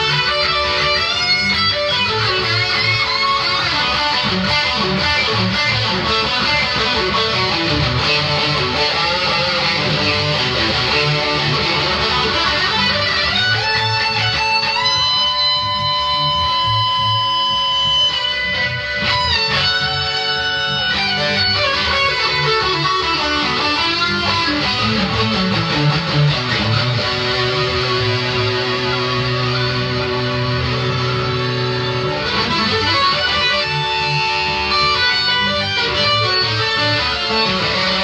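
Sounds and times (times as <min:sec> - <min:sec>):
electric guitar lead line: 0:00.0 - 0:38.0.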